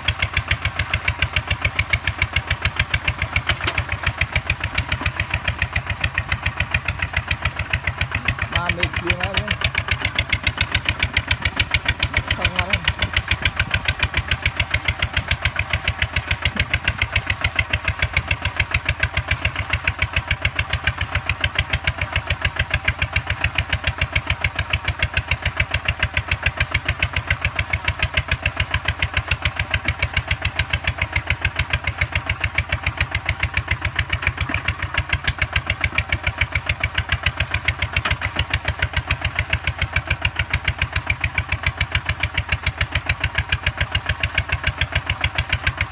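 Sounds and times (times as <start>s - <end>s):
diesel engine chugging: 0.0s - 45.9s.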